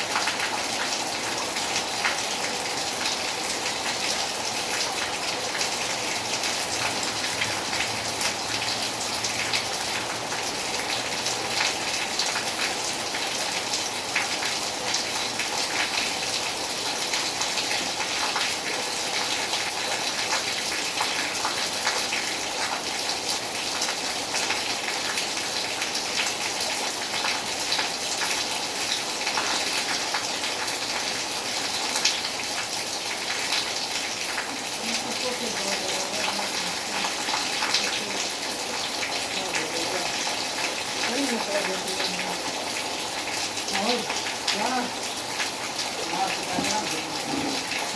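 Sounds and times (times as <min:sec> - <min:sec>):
raindrops ticking on surfaces: 0:00.0 - 0:47.9
steady rain: 0:00.0 - 0:47.9.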